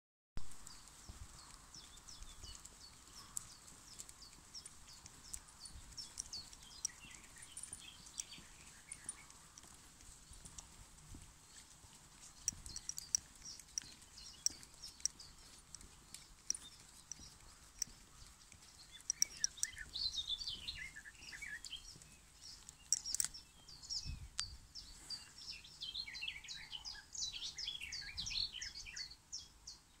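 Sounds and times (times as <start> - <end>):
footsteps on paved path: 0.4 - 29.2
small birds chirping: 0.4 - 30.0.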